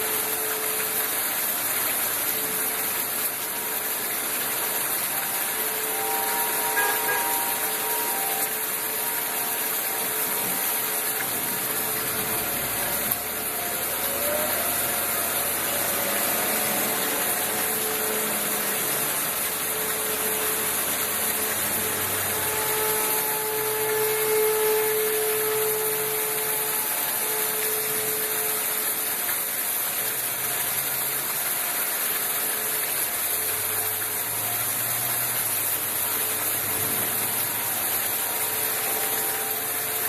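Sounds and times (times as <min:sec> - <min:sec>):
faint steady tones: 0:00.0 - 0:40.0
heavy rain and rushing floodwater: 0:00.0 - 0:40.0
low engine-like hum: 0:06.4 - 0:40.0.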